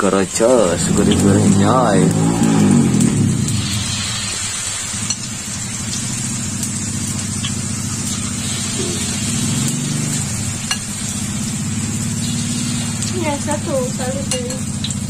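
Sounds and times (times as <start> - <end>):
food sizzling in oil: 0.0 - 15.0
low motor hum: 0.5 - 15.0.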